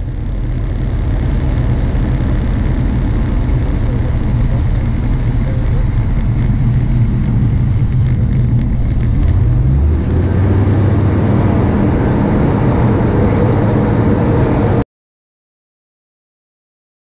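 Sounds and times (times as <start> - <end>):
aircraft engine and propeller droning: 0.0 - 14.8
rushing airflow: 0.0 - 14.8.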